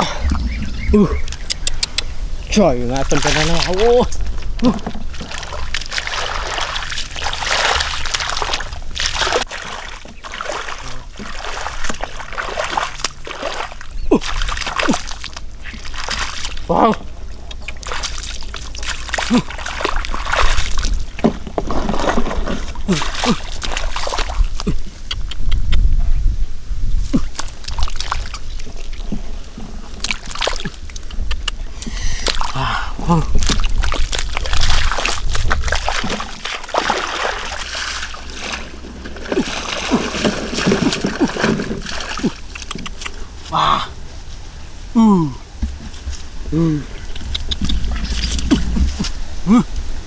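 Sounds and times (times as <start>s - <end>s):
shallow water splashing: 0.0s - 24.8s, 27.2s - 32.7s, 33.3s - 43.4s.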